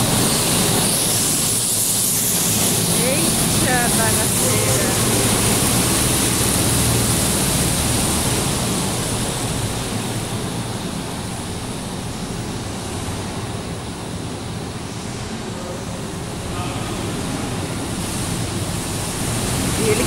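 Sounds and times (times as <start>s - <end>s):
go-kart engines echoing: 0.0s - 20.0s.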